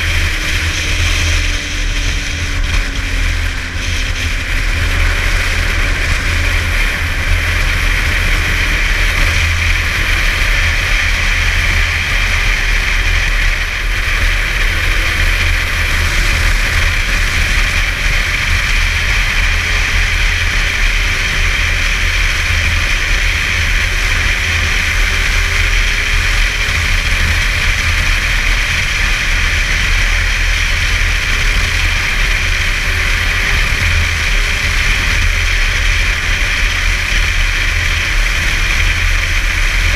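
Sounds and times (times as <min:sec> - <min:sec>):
snowmobile engine cruising: 0:00.0 - 0:39.9.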